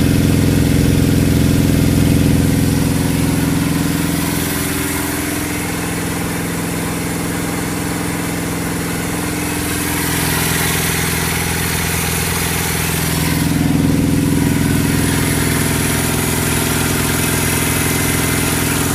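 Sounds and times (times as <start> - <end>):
motorcycle engine near idle: 0.0 - 18.9.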